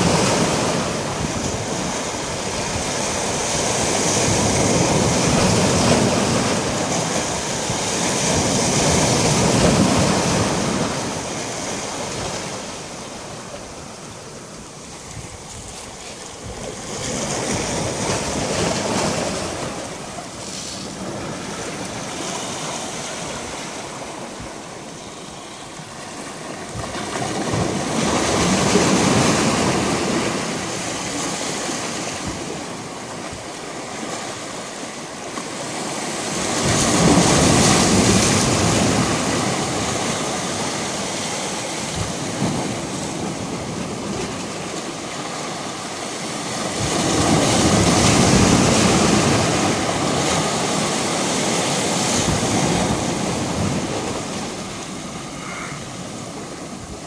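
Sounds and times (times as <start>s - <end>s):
waves washing against rocks: 0.0s - 57.0s.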